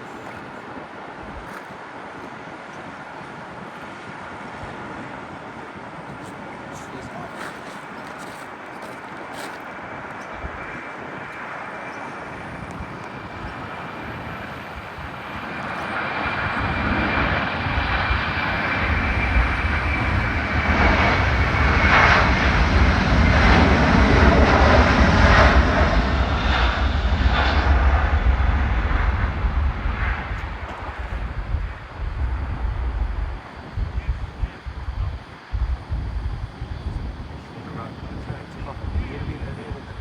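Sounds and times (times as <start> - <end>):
jet airliner taking off: 0.0 - 40.0
high engine whine: 4.6 - 40.0.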